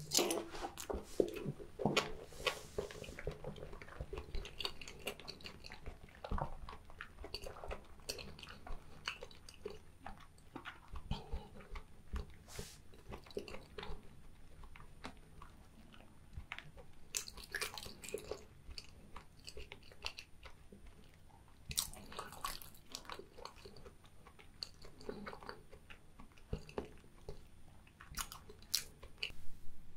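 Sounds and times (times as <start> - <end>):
person chewing food: 0.0 - 29.4.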